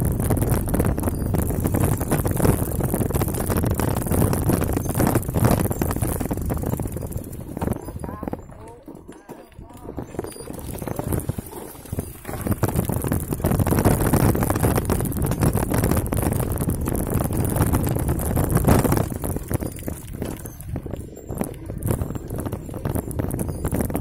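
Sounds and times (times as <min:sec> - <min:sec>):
bike and mount rattling: 0:00.0 - 0:24.0
wind rushing over microphone: 0:00.0 - 0:24.0.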